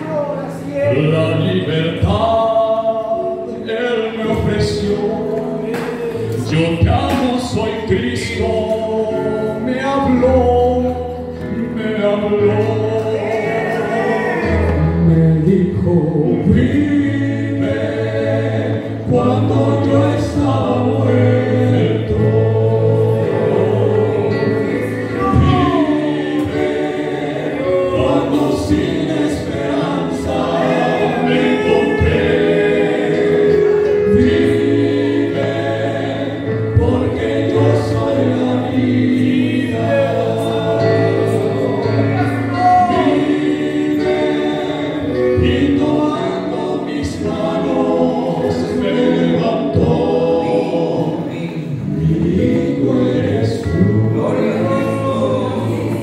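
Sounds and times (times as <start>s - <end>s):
men singing in harmony: 0.0s - 56.0s.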